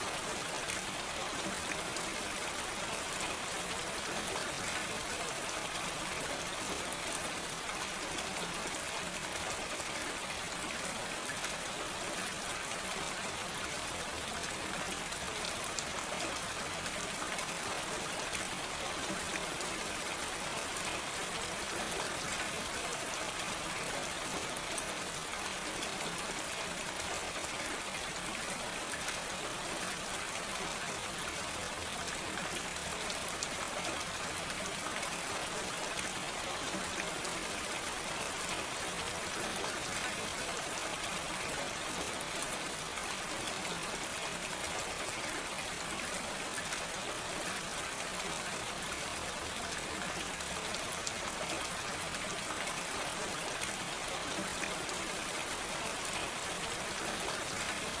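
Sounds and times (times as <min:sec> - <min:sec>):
gentle rain: 0:00.0 - 0:58.0.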